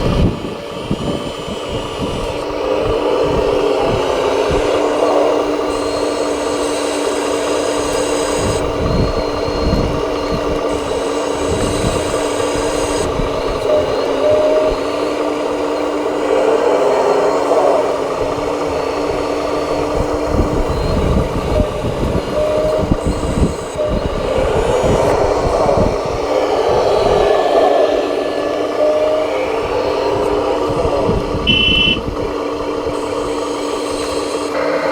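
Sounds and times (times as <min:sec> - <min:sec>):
electric motors whining: 0:00.0 - 0:34.9
higher motor whines: 0:00.0 - 0:34.9.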